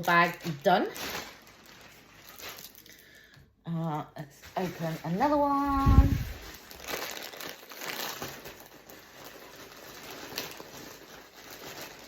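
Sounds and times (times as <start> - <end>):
plastic packaging rustling: 0.0 - 3.4, 4.4 - 12.0.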